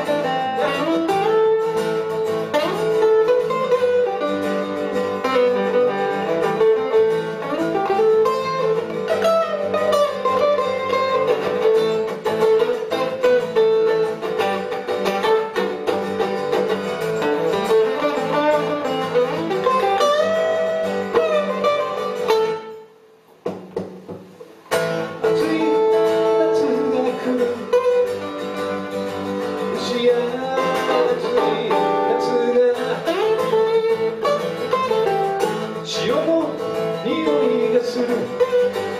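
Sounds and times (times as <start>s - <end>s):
guitars: 0.0s - 38.9s
live band playing: 0.0s - 38.9s.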